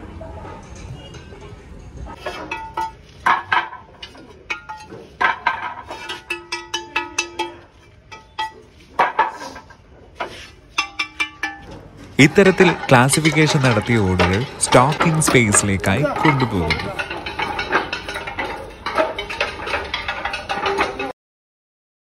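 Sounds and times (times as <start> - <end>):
iron rod clinking clay tiles: 2.1 - 21.1.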